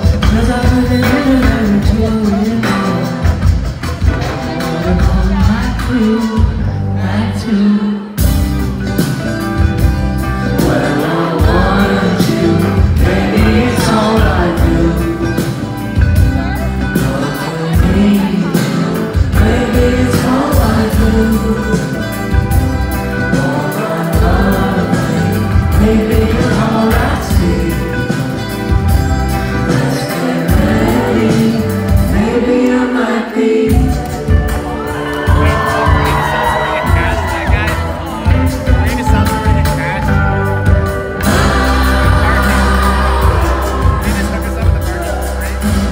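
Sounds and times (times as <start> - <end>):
live pop band playing: 0.0 - 45.9
man singing: 0.0 - 45.9.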